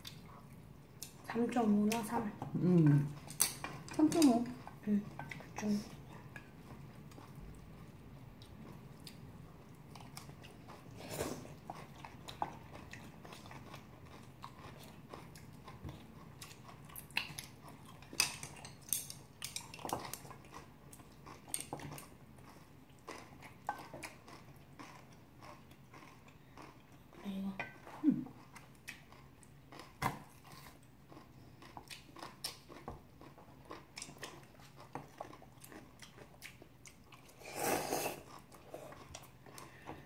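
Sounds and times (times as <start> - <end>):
chewing and crunching food: 0.0 - 40.0.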